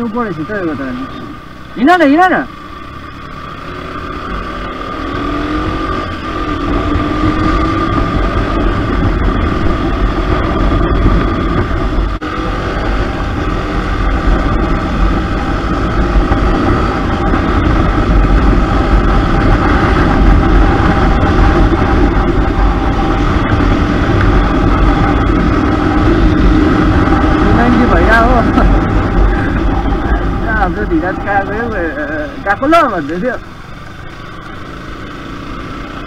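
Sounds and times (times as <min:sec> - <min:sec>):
motorcycle engine accelerating: 0:00.0 - 0:36.0
wind rush: 0:03.6 - 0:36.0.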